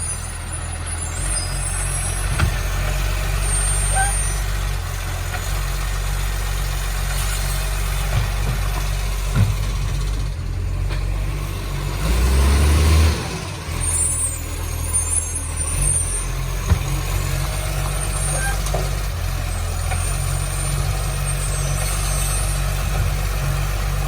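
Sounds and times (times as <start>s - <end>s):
diesel engine with leaking exhaust: 0.0s - 24.0s.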